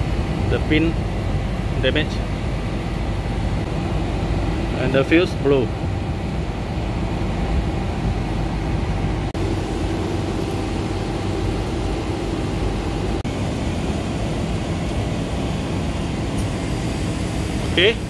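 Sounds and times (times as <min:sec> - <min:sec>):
air-conditioner units droning: 0:00.0 - 0:18.0.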